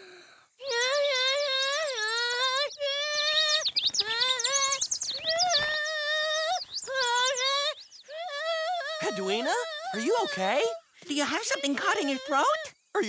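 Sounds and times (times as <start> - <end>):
cartoon voice imitating birdsong: 0.6 - 13.0.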